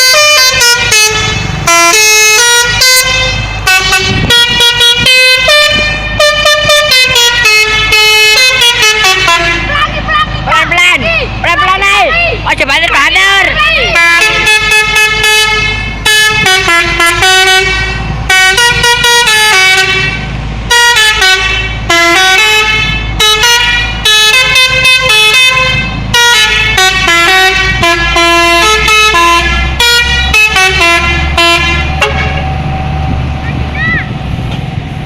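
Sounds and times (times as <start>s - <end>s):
musical air horn melody: 0.0s - 10.3s, 13.8s - 32.6s
engine humming: 0.0s - 35.0s.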